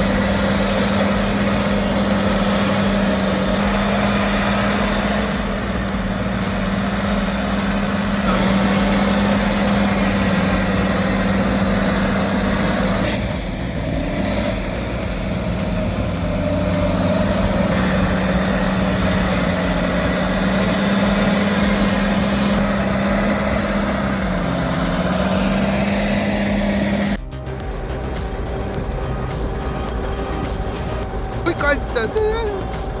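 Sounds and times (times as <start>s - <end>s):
bulldozer diesel engine droning: 0.0s - 33.0s.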